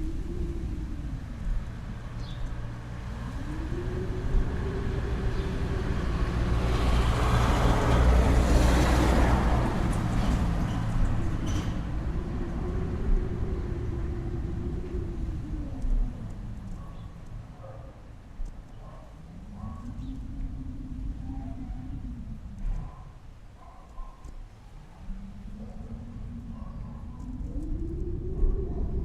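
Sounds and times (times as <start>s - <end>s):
road noise: 0.0s - 29.0s
vehicle engine hum: 0.0s - 29.0s.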